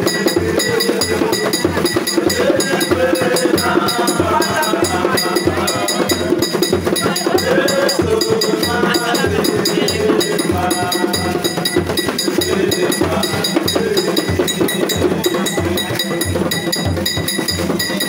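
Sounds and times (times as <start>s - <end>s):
music with percussion beat: 0.0s - 18.0s
voices talking: 0.0s - 18.0s.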